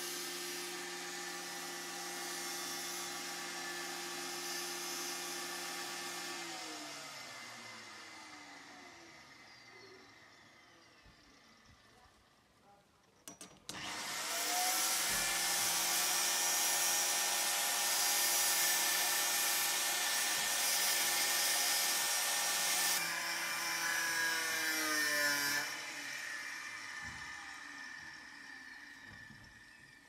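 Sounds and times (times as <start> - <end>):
power tool motor running: 0.0 - 11.8, 13.7 - 30.0.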